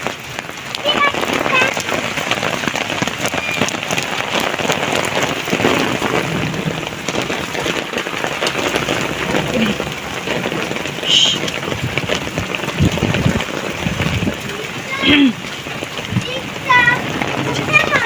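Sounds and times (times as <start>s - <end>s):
close raindrops ticking: 0.0s - 18.0s
heavy rain hissing: 0.0s - 18.0s.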